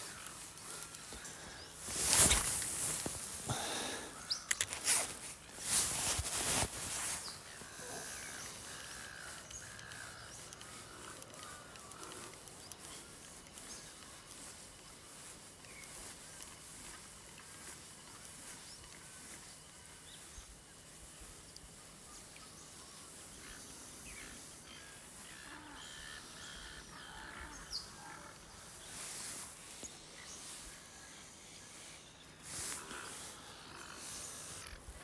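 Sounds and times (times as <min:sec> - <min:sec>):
faint bird calls: 0:00.0 - 0:35.0.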